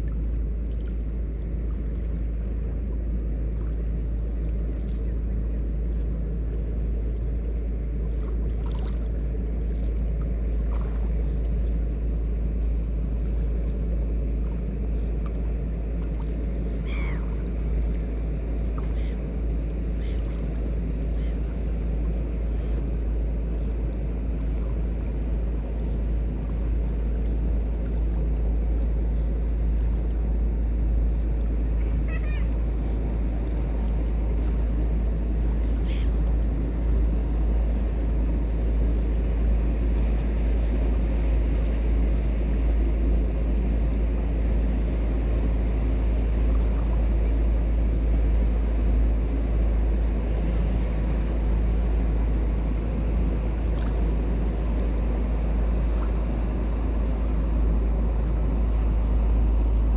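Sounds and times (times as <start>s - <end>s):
low rumble: 0.0s - 59.9s
river water lapping: 0.0s - 59.9s.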